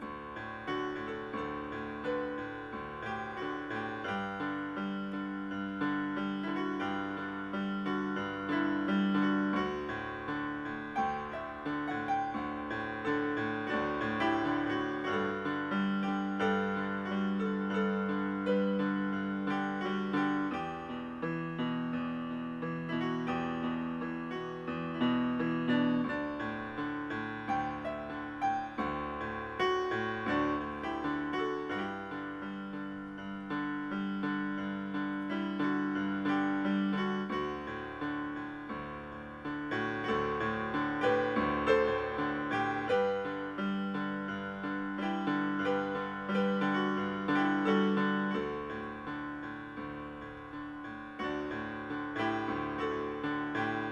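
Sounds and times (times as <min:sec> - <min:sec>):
gentle solo piano piece: 0:00.0 - 0:53.9.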